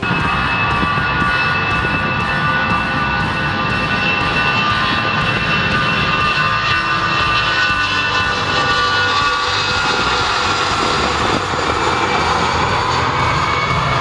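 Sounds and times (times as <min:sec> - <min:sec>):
jet fan whines: 0:00.0 - 0:14.0
rushing jet noise: 0:00.0 - 0:14.0.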